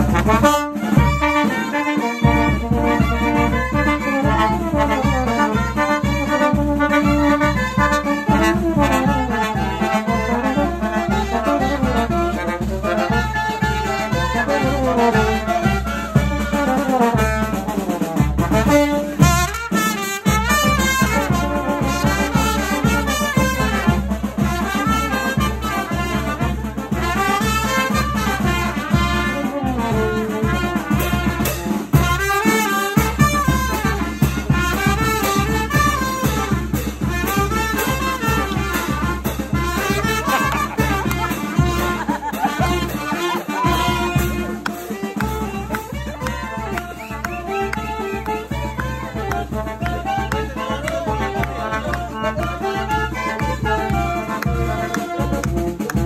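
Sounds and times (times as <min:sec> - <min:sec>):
bass drum beat: 0:00.0 - 0:56.0
brass band playing dance tune: 0:00.0 - 0:56.0.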